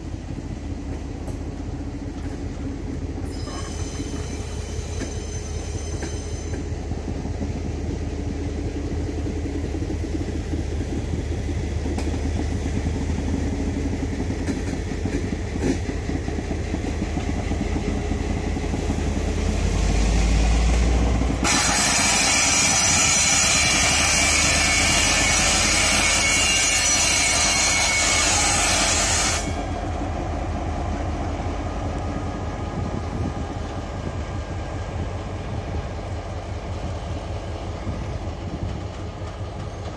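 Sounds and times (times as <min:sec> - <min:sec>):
diesel locomotive drone: 0:00.0 - 0:39.9
train coaches rumbling: 0:00.0 - 0:39.9.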